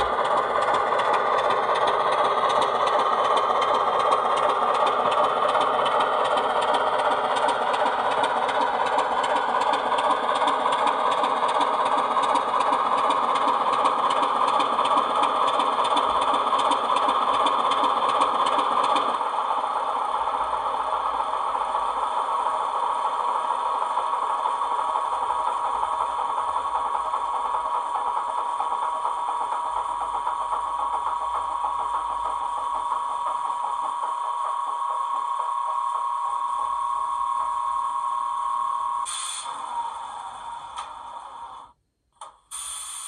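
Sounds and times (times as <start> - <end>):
diesel engine through small speaker: 0.0 - 43.0.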